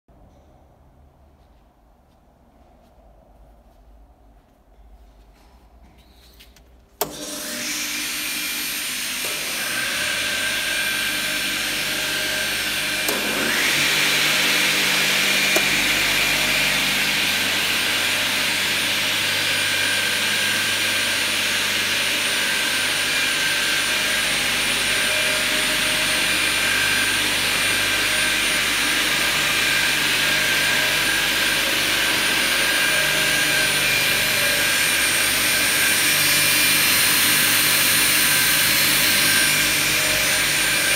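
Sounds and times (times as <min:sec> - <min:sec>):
circular saw blades whining: 0:07.0 - 0:40.9.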